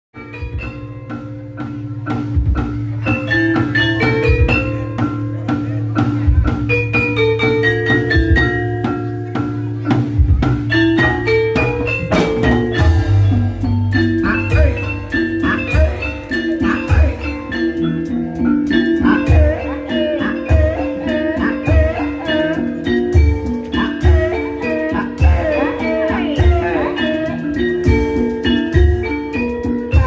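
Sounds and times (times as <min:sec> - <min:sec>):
drum beats: 0:00.2 - 0:30.0
metallophones and xylophones melody: 0:00.2 - 0:30.0.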